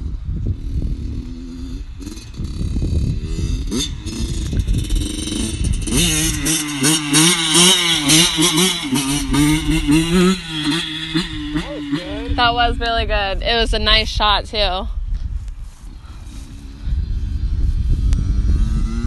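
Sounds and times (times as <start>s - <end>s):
dirt bike engine revving: 0.4s - 14.1s, 16.0s - 19.0s.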